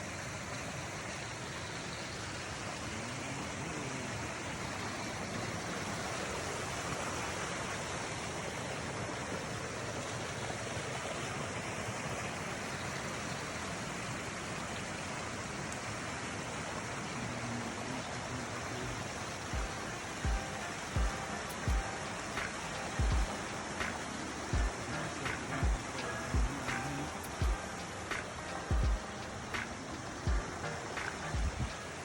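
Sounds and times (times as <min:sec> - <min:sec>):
water rushing over rocks: 0:00.0 - 0:32.0.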